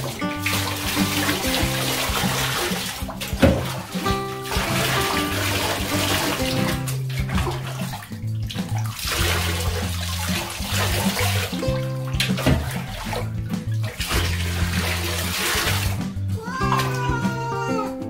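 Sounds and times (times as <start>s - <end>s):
water splashing in a bathtub: 0.0s - 17.8s
background music with bass line: 0.0s - 18.0s.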